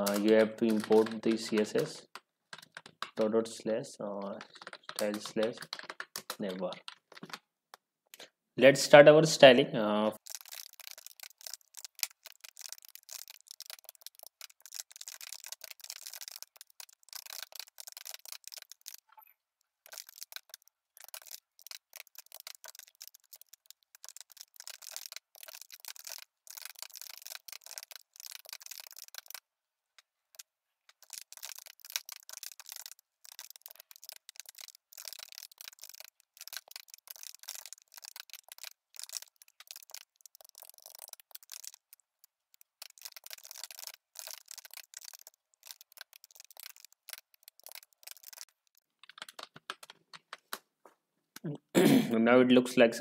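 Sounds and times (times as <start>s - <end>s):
keyboard typing: 0.0s - 7.5s, 10.2s - 50.6s.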